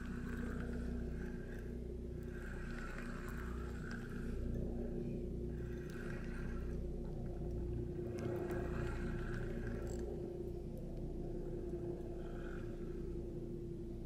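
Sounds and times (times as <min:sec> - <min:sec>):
low motor hum: 0:00.0 - 0:14.0
low rumble: 0:00.0 - 0:14.0.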